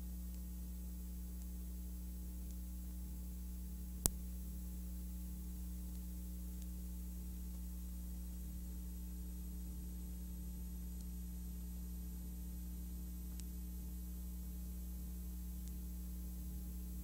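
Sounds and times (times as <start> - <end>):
low electrical hum and hiss: 0.0 - 17.0.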